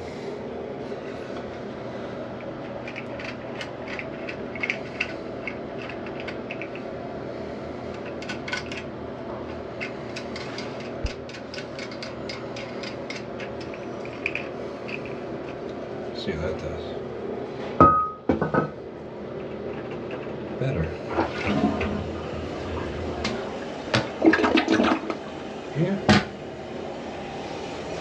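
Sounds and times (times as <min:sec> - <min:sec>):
low background hum: 0:00.0 - 0:28.0.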